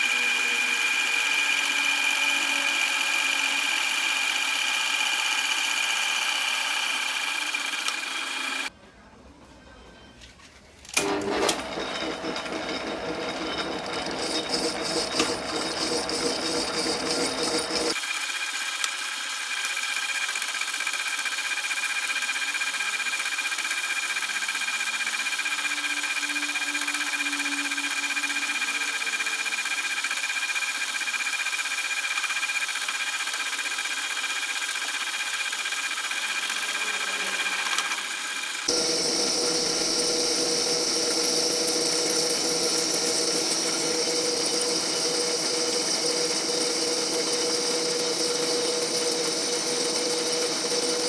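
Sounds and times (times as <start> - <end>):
power tool running with high whine: 0.0 - 8.7, 11.0 - 51.0.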